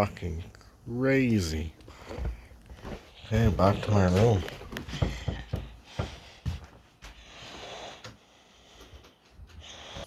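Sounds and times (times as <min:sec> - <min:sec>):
soft footsteps: 0:01.3 - 0:10.0.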